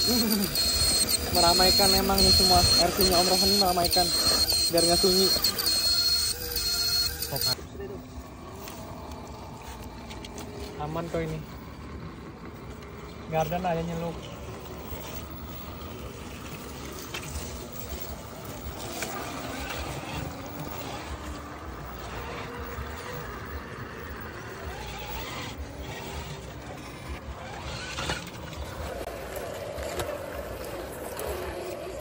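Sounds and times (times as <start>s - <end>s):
electric motors whining: 0.0s - 32.0s.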